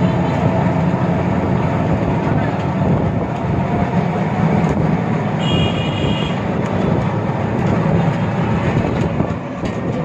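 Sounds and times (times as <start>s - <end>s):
auto-rickshaw engine and road noise: 0.0s - 10.0s.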